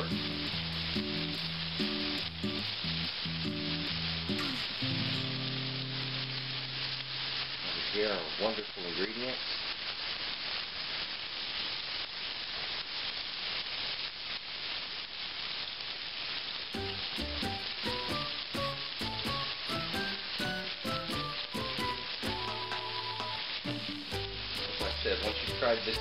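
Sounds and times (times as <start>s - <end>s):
chicken sizzling in oil: 0.0s - 26.0s
sharp crackling pops: 0.0s - 26.0s.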